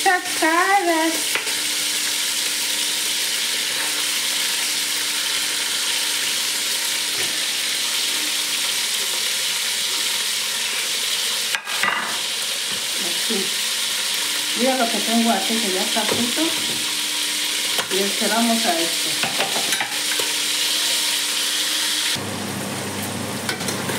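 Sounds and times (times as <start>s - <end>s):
meat sizzling in a pot: 0.0s - 23.9s.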